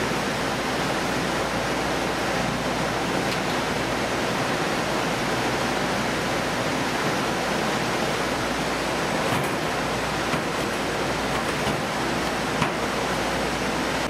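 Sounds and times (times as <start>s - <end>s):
steady machinery rushing noise: 0.0s - 14.0s.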